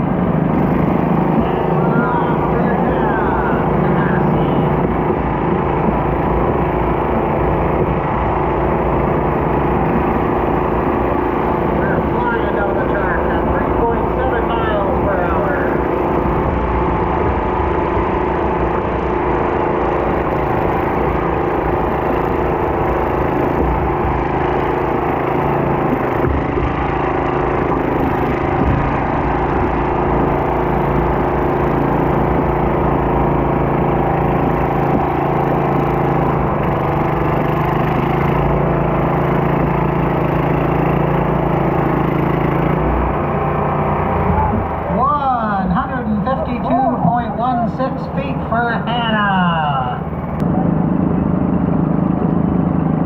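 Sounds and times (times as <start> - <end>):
garden tractor engine under load: 0.0 - 53.0.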